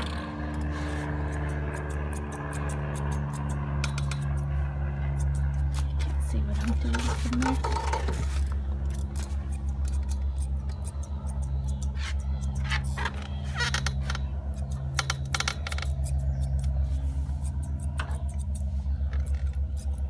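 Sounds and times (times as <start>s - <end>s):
scissors snipping hair: 0.0s - 20.0s
steady low hum: 0.0s - 20.0s.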